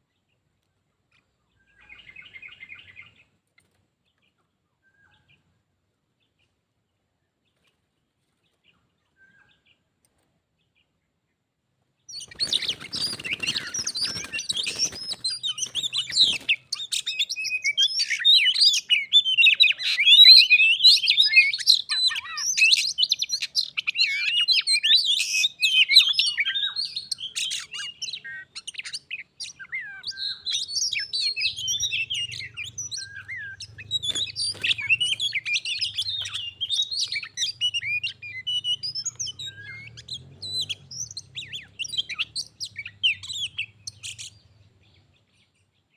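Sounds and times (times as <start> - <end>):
bird song chirps and whistles: 1.1 - 3.3, 4.8 - 5.6, 8.7 - 9.8, 12.0 - 45.9.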